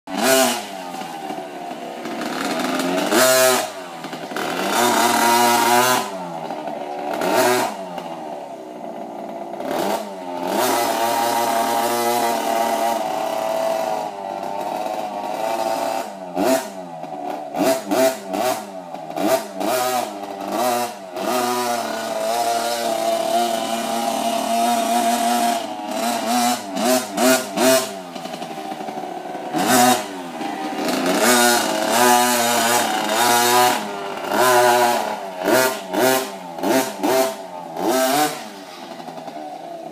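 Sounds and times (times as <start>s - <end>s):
dirt bike engine revving: 0.1s - 39.9s.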